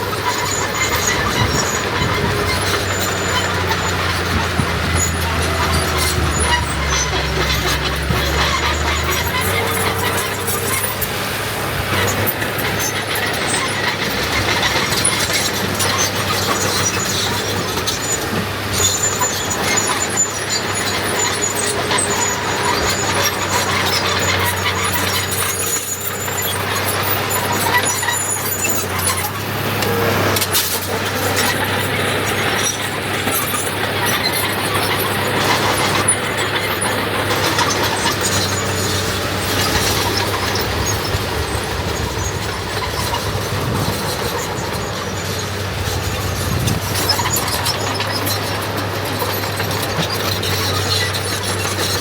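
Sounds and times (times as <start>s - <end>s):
heavy machinery diesel engines: 0.0s - 52.0s
high metallic squeal: 0.0s - 52.0s.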